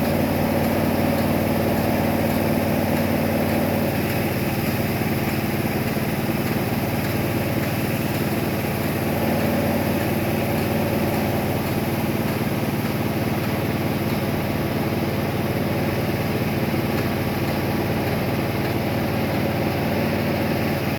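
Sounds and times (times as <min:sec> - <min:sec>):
pressure washer engine running: 0:00.0 - 0:20.9.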